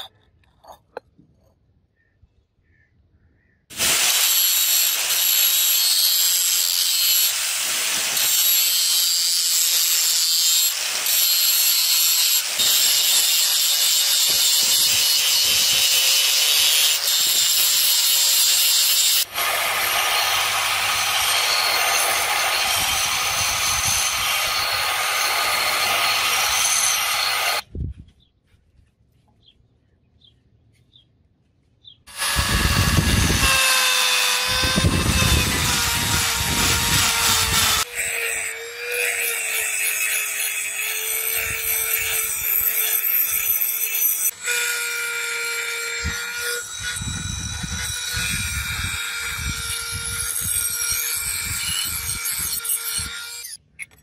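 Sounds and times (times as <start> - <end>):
angle grinder grinding steel: 3.7 - 27.6, 32.1 - 53.6
rotary tool whine: 3.8 - 27.6, 32.1 - 53.6.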